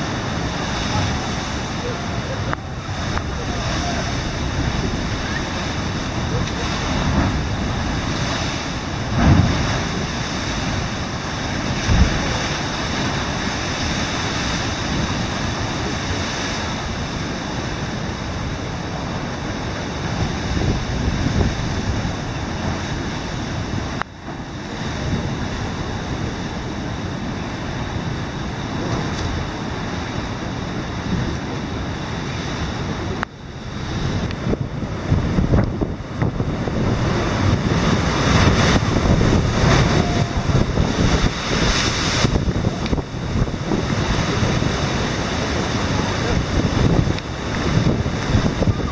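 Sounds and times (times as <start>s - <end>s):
heavy surf breaking on rocks: 0.0s - 48.9s
wind gusts thumping on microphone: 0.0s - 48.9s.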